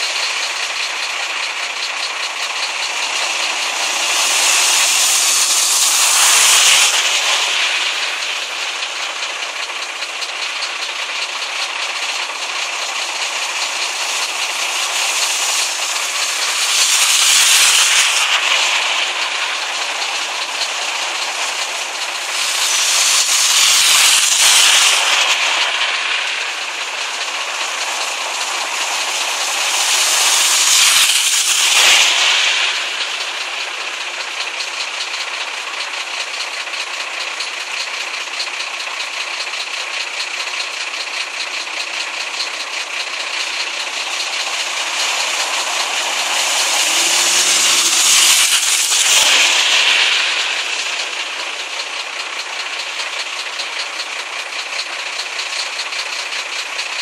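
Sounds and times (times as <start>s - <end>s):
cars splashing through floodwater: 0.0s - 38.7s, 41.7s - 57.0s.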